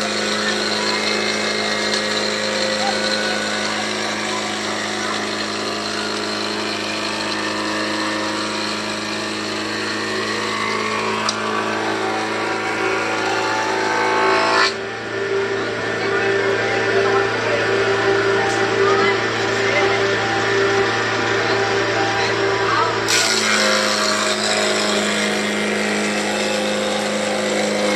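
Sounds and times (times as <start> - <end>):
high rising tone: 0.0 - 27.9
power tool humming: 0.0 - 27.9.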